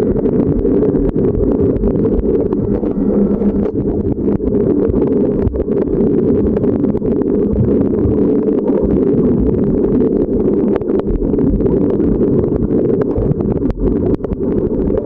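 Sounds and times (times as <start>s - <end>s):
small underwater clicks and crackles: 0.0s - 15.0s
underwater rumble of moving water: 0.0s - 15.0s.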